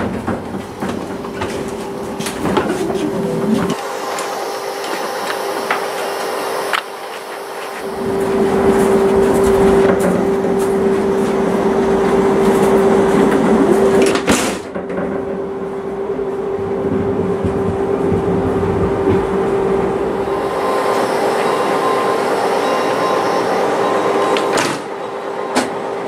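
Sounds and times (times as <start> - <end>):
train rumble and hum: 0.0 - 4.0, 7.3 - 26.0.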